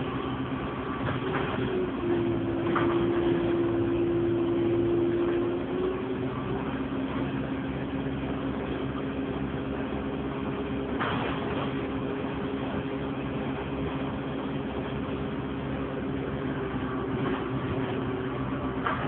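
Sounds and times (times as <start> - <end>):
bus engine drone from inside: 0.0 - 19.0
steady whining tone: 0.0 - 19.0.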